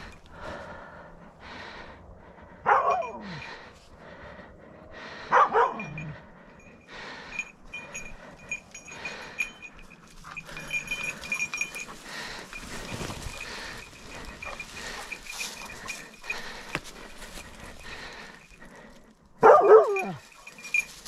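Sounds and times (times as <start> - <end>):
hound baying: 2.4 - 3.7, 5.2 - 21.0.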